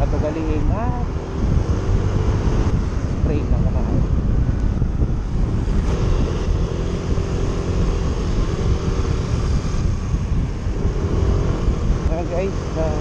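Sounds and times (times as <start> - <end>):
vehicle engine humming: 0.0 - 13.0
wind rumble on microphone: 0.0 - 13.0.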